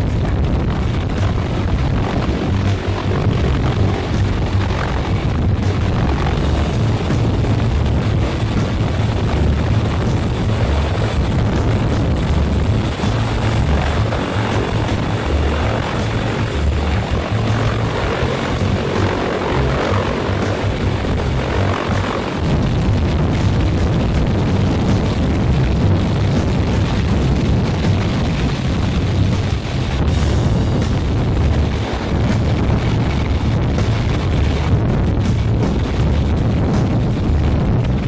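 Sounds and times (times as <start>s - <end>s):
helicopter rotor and turbine noise: 0.0s - 38.0s.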